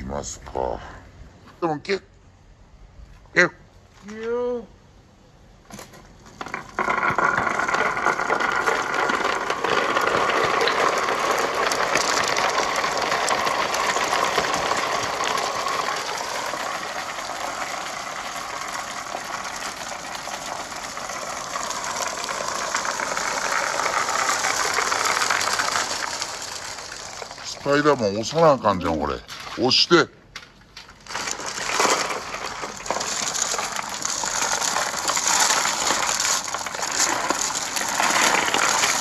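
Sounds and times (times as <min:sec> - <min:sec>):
balls rolling on marble run: 0:05.7 - 0:30.0, 0:30.8 - 0:39.0.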